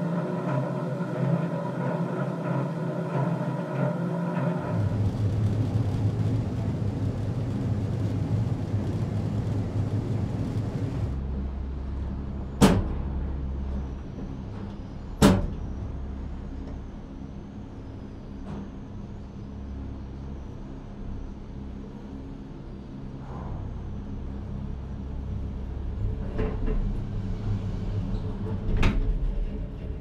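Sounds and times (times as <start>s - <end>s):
gondola lift rumble and hum: 0.0s - 30.0s.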